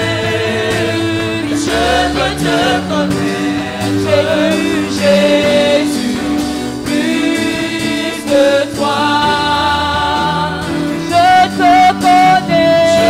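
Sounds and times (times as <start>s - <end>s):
voices singing gospel: 0.0s - 13.0s.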